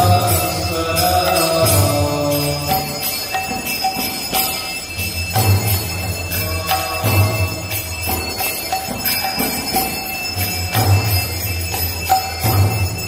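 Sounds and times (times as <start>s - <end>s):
brass hand bell ringing: 0.0s - 13.0s.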